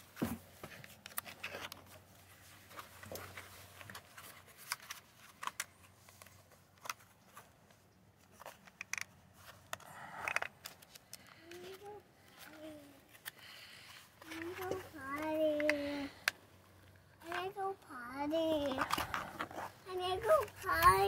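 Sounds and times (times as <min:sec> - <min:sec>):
plastic clicks and rubbing: 0:00.8 - 0:02.0, 0:02.7 - 0:07.5, 0:08.2 - 0:13.4, 0:14.2 - 0:17.6, 0:18.4 - 0:21.0.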